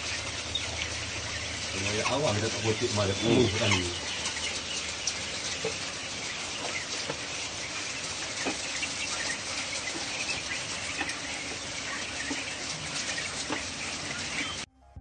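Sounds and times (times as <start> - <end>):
quail chirping and calling: 0.0 - 14.7.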